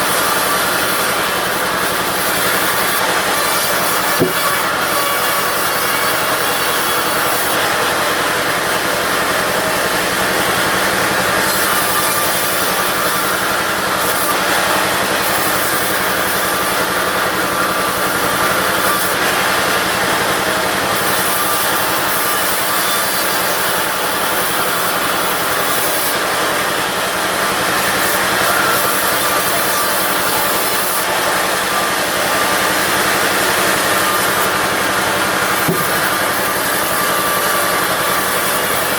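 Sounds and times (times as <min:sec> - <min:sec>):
bandsaw blade cutting wood: 0:00.0 - 0:38.9.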